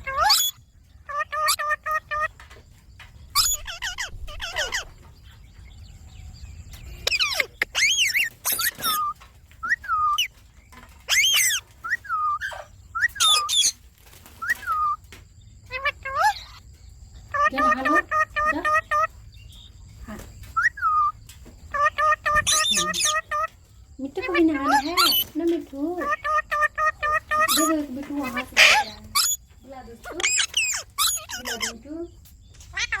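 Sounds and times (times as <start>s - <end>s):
parakeets squawking and chirping: 0.0s - 5.6s, 6.6s - 15.0s, 15.6s - 33.0s.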